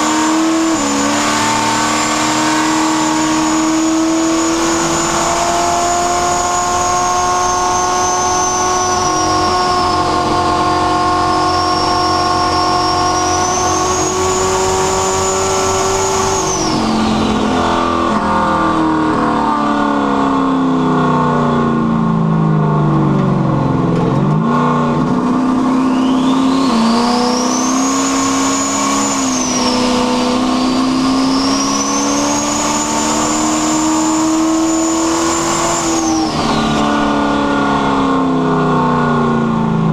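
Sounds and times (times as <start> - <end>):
high turbo whistle: 0.0 - 19.3, 25.7 - 39.6
car engine driving: 0.0 - 39.9.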